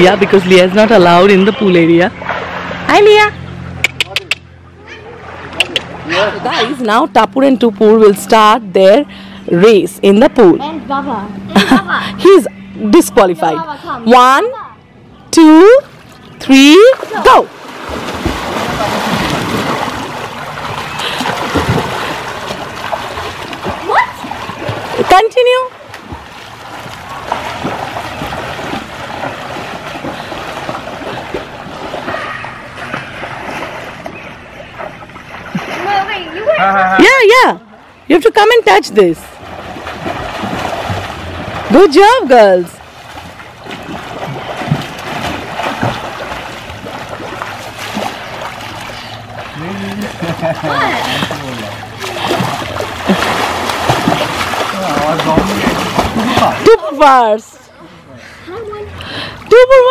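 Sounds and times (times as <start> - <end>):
swimmers splashing water: 0.0 - 3.9, 15.4 - 59.9.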